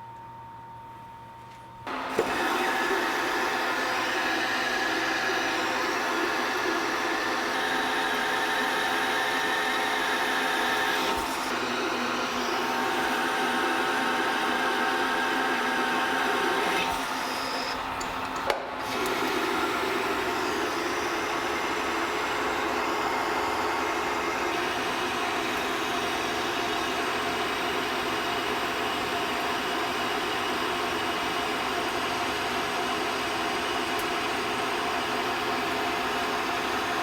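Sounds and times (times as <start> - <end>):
metal lathe cutting: 1.9 - 37.0.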